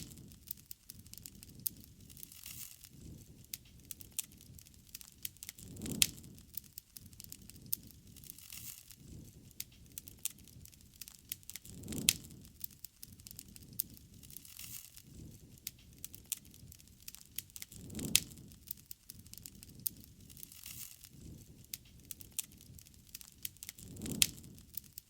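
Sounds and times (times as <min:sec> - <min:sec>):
campfire crackling: 0:00.0 - 0:25.0
fire snaps and pops: 0:00.0 - 0:25.0
low flame rumble: 0:00.0 - 0:25.0.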